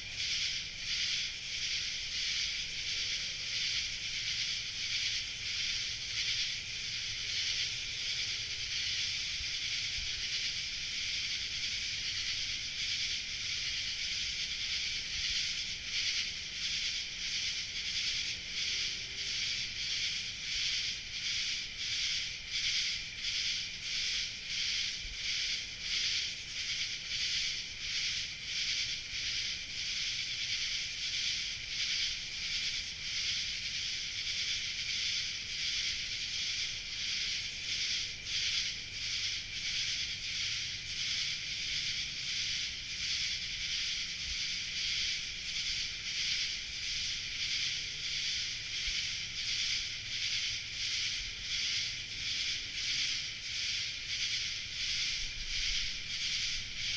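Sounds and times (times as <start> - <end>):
pulsing cicada chorus: 0.0 - 56.9.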